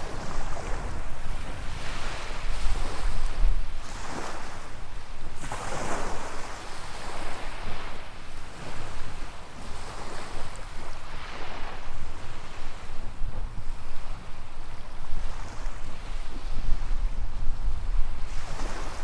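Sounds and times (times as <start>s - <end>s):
small waves washing up a beach: 0.0s - 19.0s
wind rumble on microphone: 0.0s - 19.0s.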